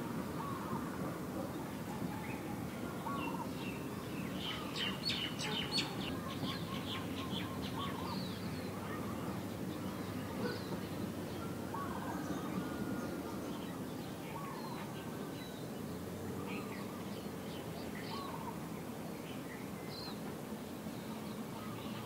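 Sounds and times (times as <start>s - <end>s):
birds chirping: 1.4s - 22.0s.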